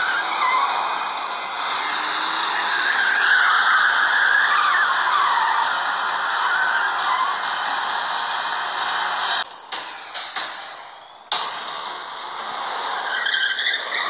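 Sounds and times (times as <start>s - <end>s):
car tyres squealing: 0.0s - 10.2s, 10.8s - 14.0s
engine and road noise: 0.0s - 14.0s.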